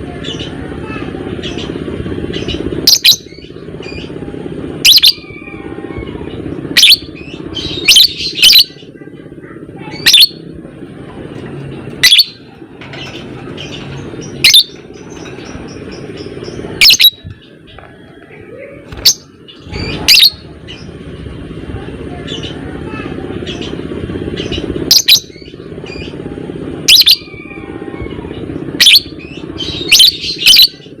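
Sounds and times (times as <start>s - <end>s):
steady low hum: 0.0s - 31.0s
bird chattering: 0.1s - 4.2s, 4.8s - 10.5s, 11.8s - 21.0s, 22.0s - 31.0s.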